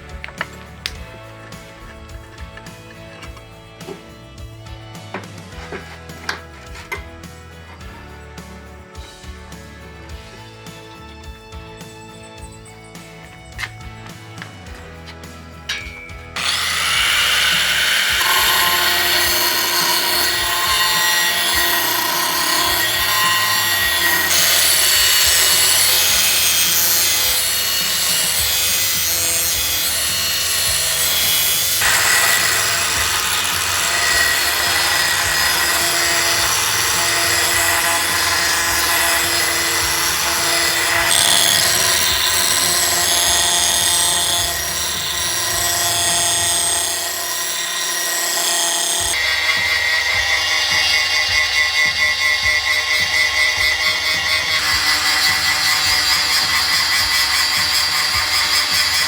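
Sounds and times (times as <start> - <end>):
power tool grinding steel: 0.0 - 59.0.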